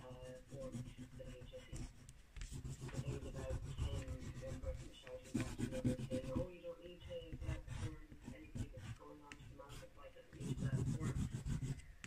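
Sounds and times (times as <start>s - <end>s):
crayon scratching on paper: 0.0s - 11.9s.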